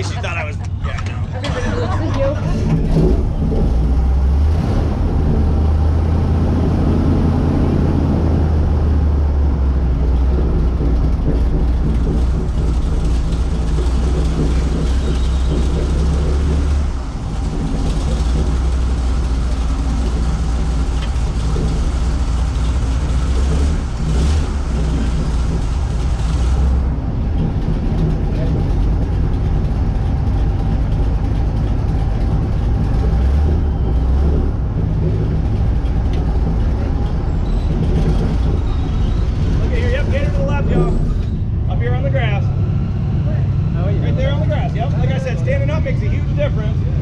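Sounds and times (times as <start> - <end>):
airboat engine and propeller: 0.0 - 47.0.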